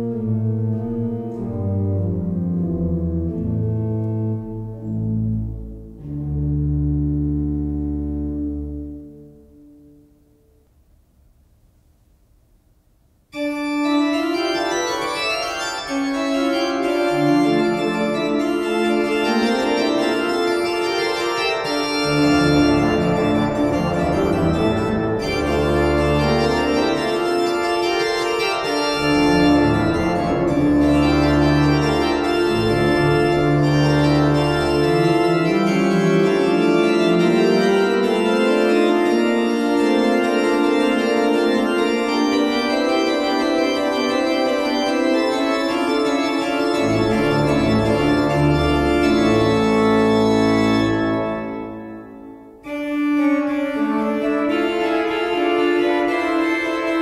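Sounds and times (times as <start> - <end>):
deep organ pedal bass notes: 0.0 - 11.1, 13.4 - 57.0
pipe organ chords: 0.0 - 12.5, 13.3 - 57.0.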